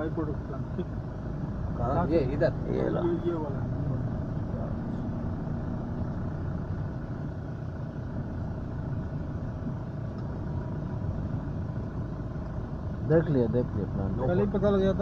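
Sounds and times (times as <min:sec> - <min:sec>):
road noise: 0:00.0 - 0:15.0
vehicle engine rumble: 0:00.0 - 0:15.0.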